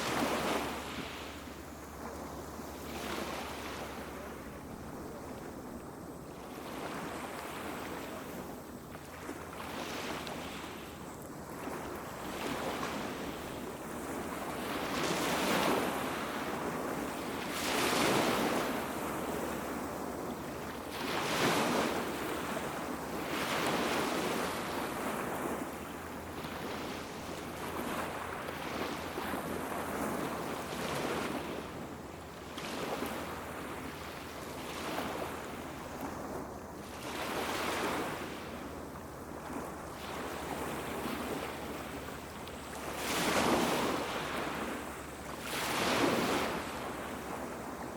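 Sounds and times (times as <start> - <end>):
sea waves breaking on beach: 0.0 - 47.9.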